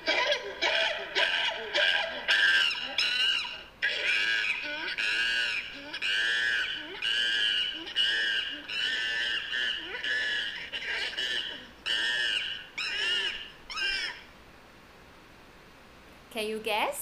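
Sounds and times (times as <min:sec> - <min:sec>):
high-pitched monkey calls: 0:00.0 - 0:14.3.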